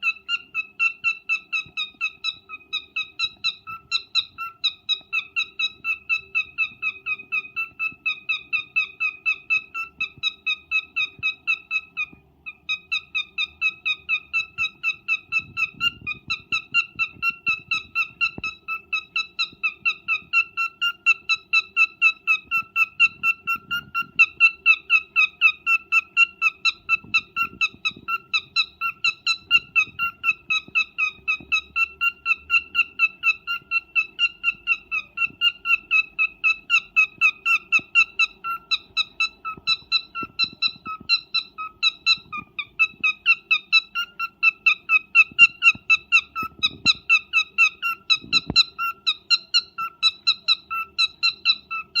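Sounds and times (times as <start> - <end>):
cockatiel chirping: 0.0 - 52.0.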